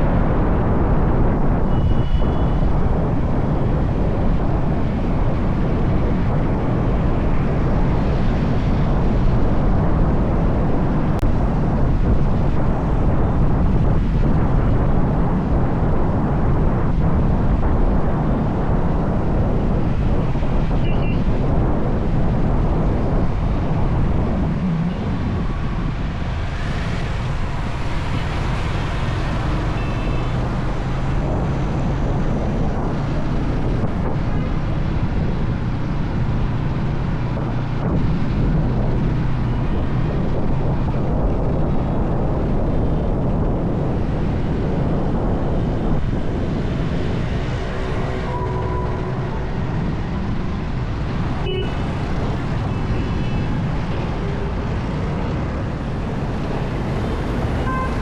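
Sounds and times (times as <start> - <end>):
traffic rumble: 0.0 - 58.0
wind rushing over microphone: 0.0 - 58.0.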